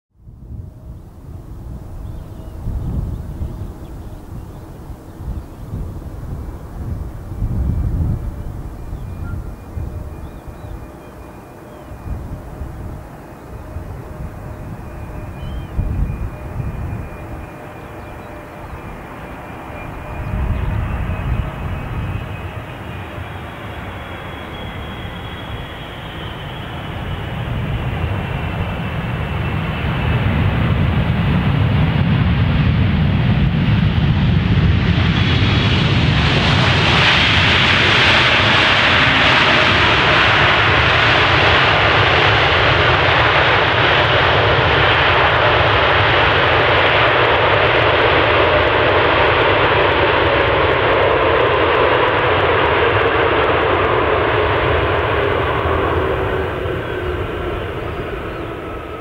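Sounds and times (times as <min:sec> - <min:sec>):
jet engine roar: 0:00.2 - 0:59.0
jet engine whine: 0:00.2 - 0:59.0.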